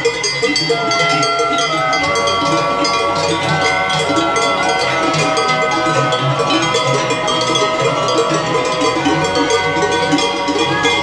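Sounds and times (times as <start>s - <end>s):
cowbells clanging: 0.0s - 11.0s.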